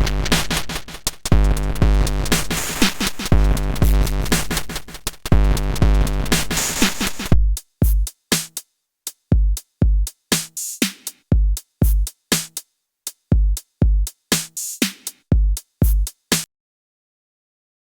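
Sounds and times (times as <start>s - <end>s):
bit-crushed drum machine beat: 0.0s - 16.5s.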